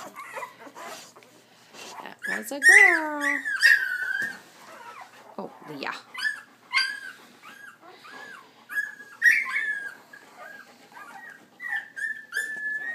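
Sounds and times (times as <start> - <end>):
puppies squeaking and whimpering: 0.0 - 12.9.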